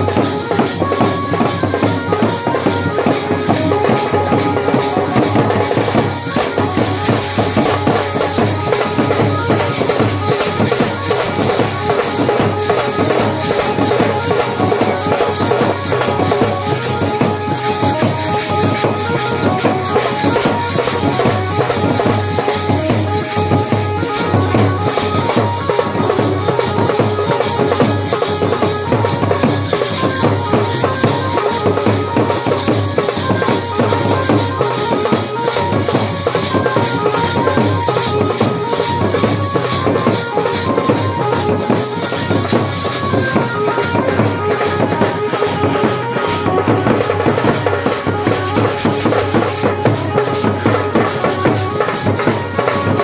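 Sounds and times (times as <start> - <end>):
bass drum beaten steadily: 0.0 - 53.0
jingling percussion: 0.0 - 53.0.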